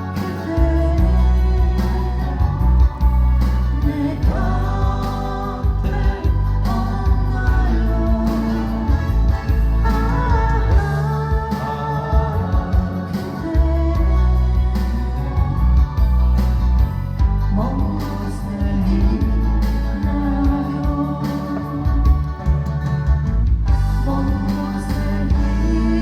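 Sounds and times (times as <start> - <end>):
person singing: 0.0 - 22.8, 23.7 - 26.0
instrumental backing with bass: 0.0 - 26.0.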